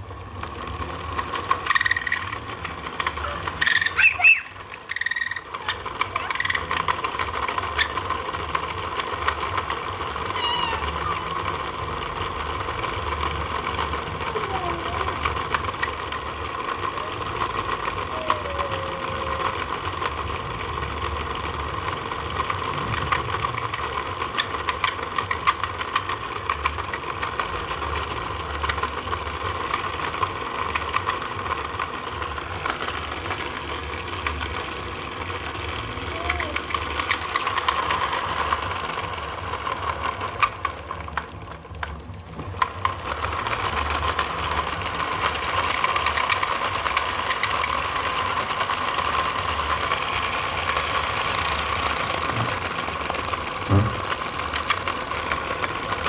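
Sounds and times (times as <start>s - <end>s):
motor running with fine ticking: 0.0s - 56.0s.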